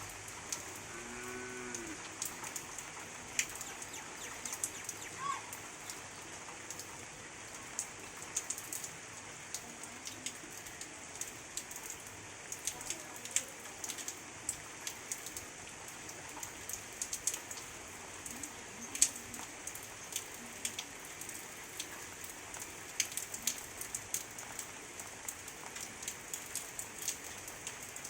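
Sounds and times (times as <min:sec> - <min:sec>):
rain hiss: 0:00.0 - 0:28.0
raindrops ticking: 0:00.0 - 0:28.0.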